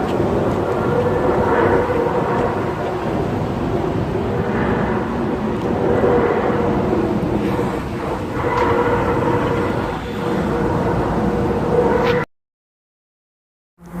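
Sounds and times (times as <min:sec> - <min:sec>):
dense rumbling background: 0:00.0 - 0:12.2
pitched drone with overtones: 0:00.0 - 0:12.3.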